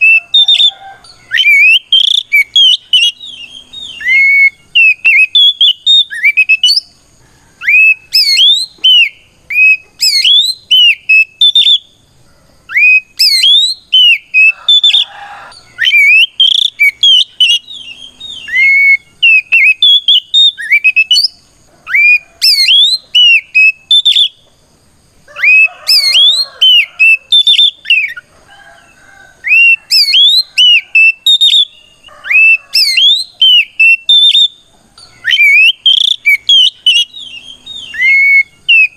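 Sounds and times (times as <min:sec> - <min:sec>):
bird singing whistled phrases: 0:00.0 - 0:06.9, 0:07.6 - 0:11.9, 0:12.7 - 0:24.4, 0:25.4 - 0:28.2, 0:29.4 - 0:38.9.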